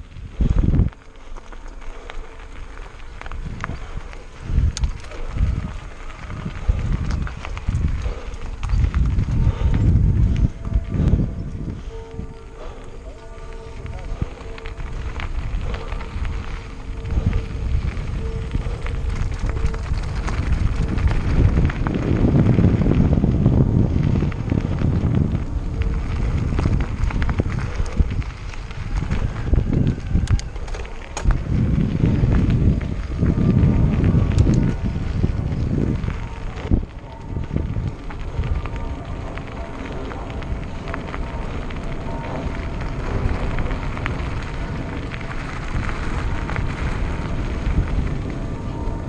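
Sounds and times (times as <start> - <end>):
bike tyres crunching on gravel: 0.0 - 49.0
wind buffeting microphone: 0.0 - 49.0.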